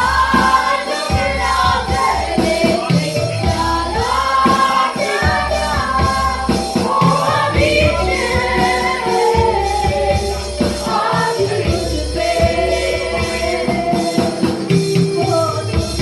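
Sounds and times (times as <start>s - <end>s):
congregation singing: 0.0s - 16.0s
live band with steady beat: 0.0s - 16.0s.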